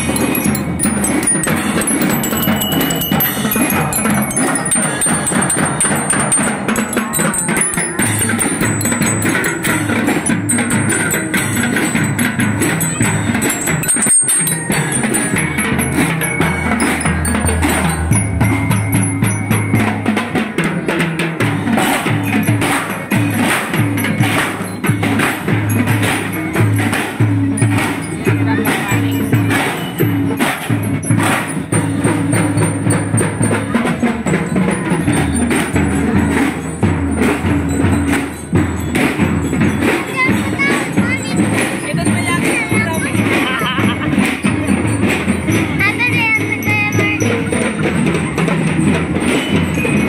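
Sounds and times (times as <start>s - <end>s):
bright bell-like notes: 0.0s - 50.0s
marching drum beat: 0.0s - 50.0s.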